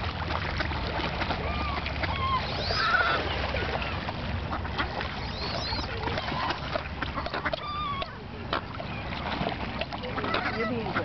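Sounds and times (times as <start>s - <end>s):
ducks geese and gulls calling: 0.2s - 11.0s.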